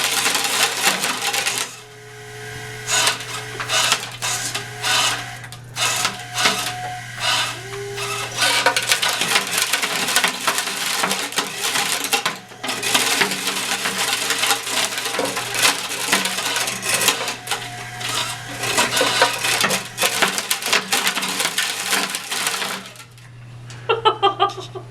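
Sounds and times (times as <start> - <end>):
rapid clattering and clicking: 0.0 - 1.8, 2.9 - 23.2
toy rotors whirring: 2.5 - 23.2.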